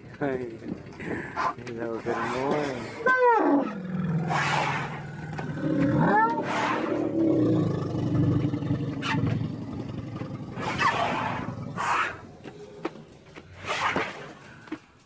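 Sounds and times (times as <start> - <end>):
elephants rumbling: 0.0 - 14.7.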